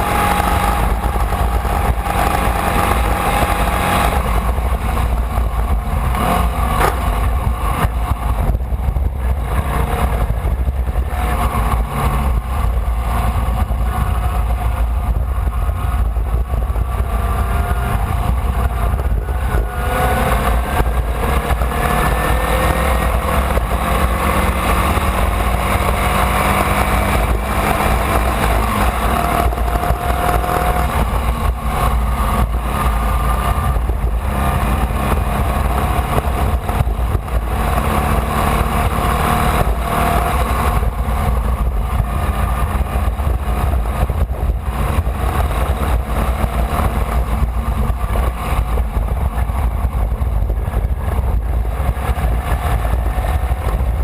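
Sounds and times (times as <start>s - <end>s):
race car engine at speed: 0.0s - 54.0s
wind rumble on microphone: 0.0s - 54.0s.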